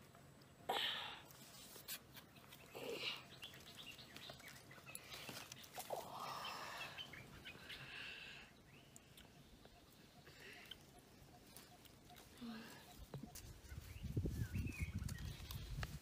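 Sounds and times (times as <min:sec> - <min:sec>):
faint bird chirps: 0:00.0 - 0:15.8.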